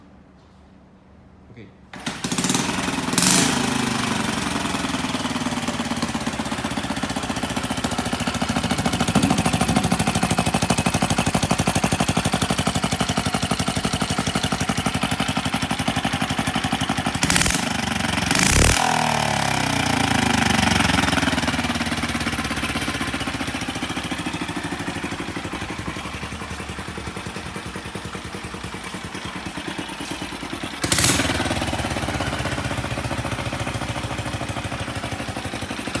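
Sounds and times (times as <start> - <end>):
small engine idling: 2.0 - 36.0.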